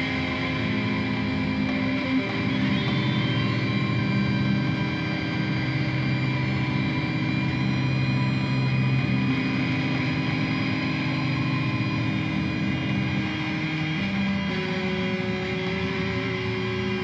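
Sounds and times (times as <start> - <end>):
electric guitar droning chord: 0.0 - 17.0.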